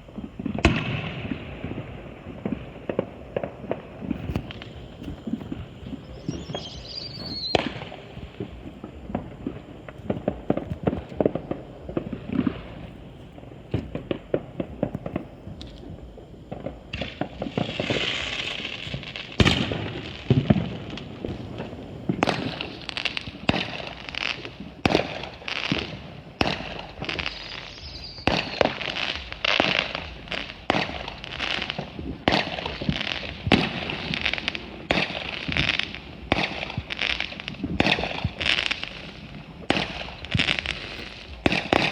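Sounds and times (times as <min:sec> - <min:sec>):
fireworks bangs and pops: 0:00.0 - 0:41.9
fireworks crackling: 0:00.0 - 0:41.9.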